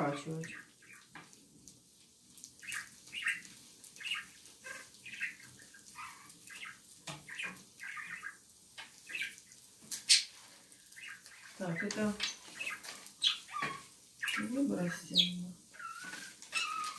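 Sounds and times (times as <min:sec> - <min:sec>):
caged birds chirping: 0:00.0 - 0:01.4, 0:02.3 - 0:16.9.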